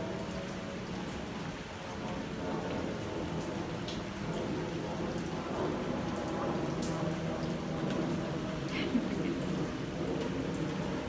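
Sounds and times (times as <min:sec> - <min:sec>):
louder raindrops: 0:00.0 - 0:11.0
steady rain falling: 0:00.0 - 0:11.0.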